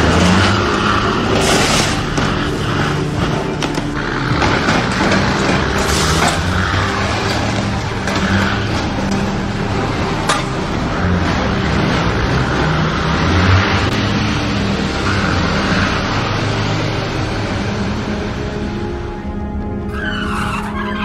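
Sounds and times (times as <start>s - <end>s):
road noise: 0.0s - 21.0s
vehicle engine hum: 0.0s - 21.0s.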